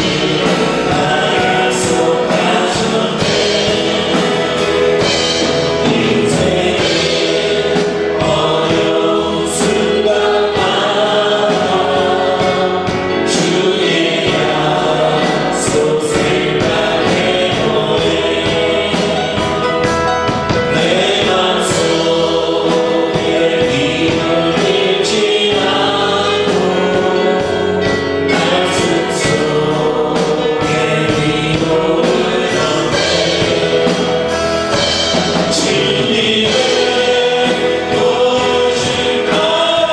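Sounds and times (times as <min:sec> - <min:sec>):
band accompaniment: 0:00.0 - 0:39.9
choir singing worship song: 0:00.0 - 0:39.9.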